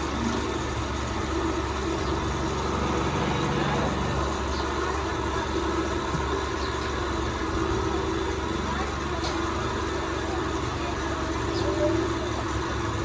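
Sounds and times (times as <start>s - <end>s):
street traffic noise: 0.0s - 13.0s
vehicle engines running: 0.0s - 13.0s.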